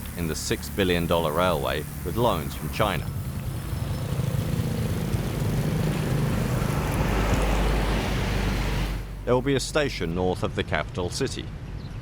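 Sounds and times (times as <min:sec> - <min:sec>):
vehicle engine humming: 0:00.0 - 0:10.2.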